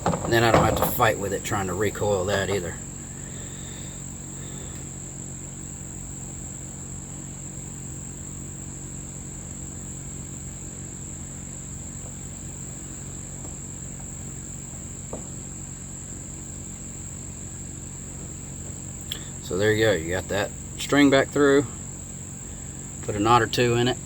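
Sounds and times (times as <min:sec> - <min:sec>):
cricket chorus: 0:00.0 - 0:24.0
low even hum: 0:00.0 - 0:24.0.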